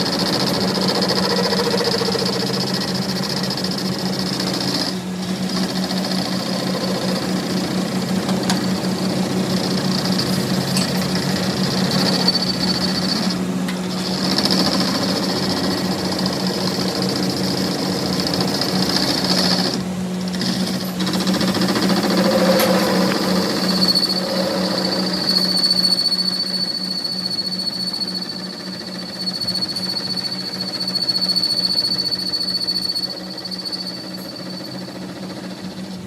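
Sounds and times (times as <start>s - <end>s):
workshop machinery buzzing chatter: 0.0s - 36.0s.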